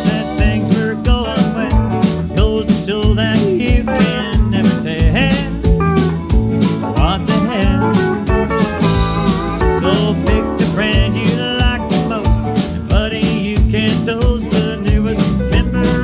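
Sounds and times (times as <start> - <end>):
bass: 0.0 - 16.0
guitar: 0.0 - 16.0
sliding bending lead melody: 0.0 - 16.0
steady drum beat: 0.0 - 16.0.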